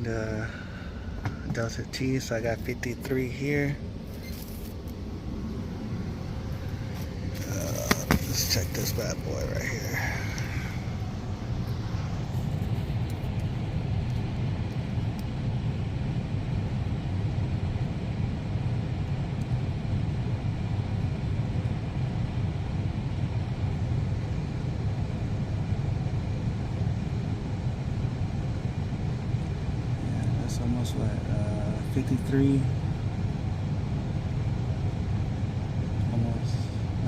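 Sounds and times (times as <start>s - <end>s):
air conditioner humming: 0.0s - 37.0s.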